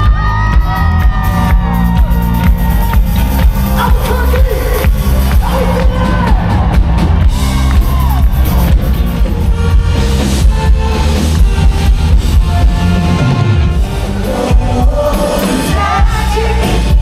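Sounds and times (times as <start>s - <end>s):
drum kit beat: 0.0s - 17.0s
live rock band playing: 0.0s - 17.0s.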